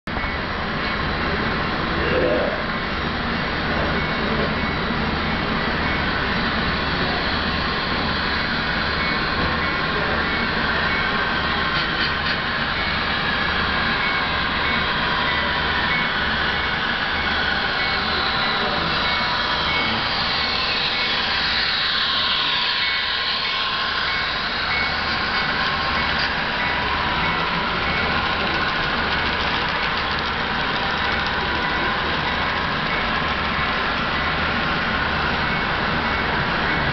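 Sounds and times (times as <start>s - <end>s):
model train wheels and motor whining: 0.2s - 36.9s.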